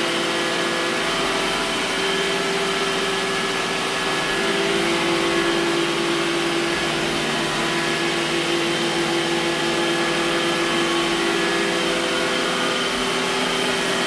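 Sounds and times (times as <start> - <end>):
robot vacuum whirring: 0.1 - 14.0.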